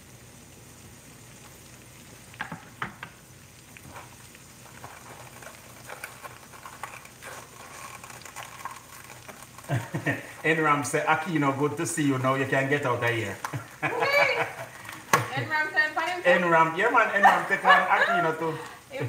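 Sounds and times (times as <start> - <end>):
oil popping and crackling: 0.0 - 19.0
onions frying in oil: 0.0 - 19.0.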